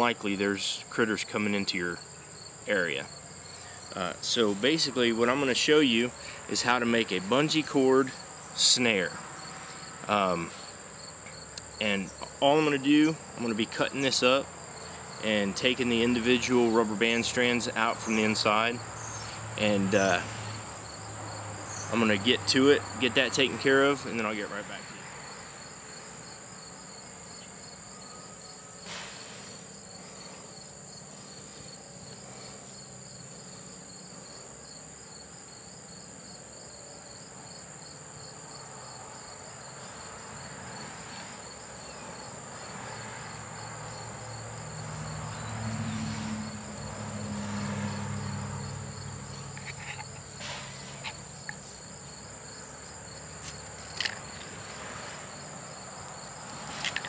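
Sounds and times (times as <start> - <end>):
insects trilling: 0.0 - 57.0
pulsing insect trill: 0.0 - 57.0.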